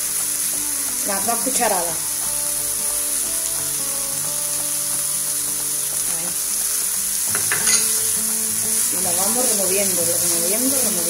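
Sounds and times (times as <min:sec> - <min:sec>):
background music with held notes: 0:00.0 - 0:11.0
frying pan sizzling: 0:00.0 - 0:11.0.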